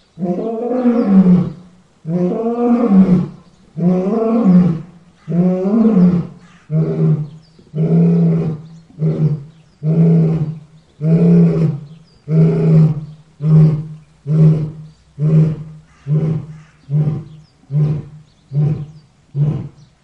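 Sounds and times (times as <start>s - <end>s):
lion roaring: 0.2s - 19.9s.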